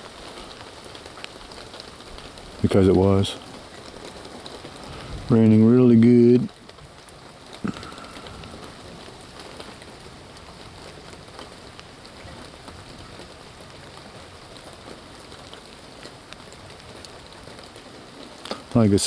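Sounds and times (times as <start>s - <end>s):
raindrop taps: 0.0s - 19.0s
steady rain hiss: 0.0s - 19.0s.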